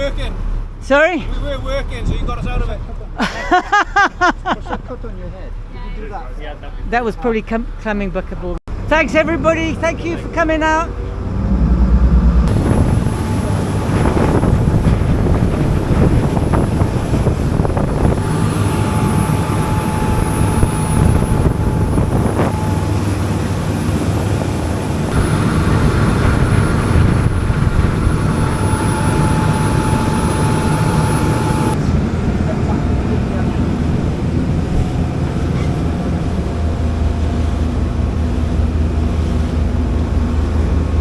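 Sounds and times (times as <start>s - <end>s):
boat engine droning: 0.0s - 3.2s, 4.3s - 41.0s.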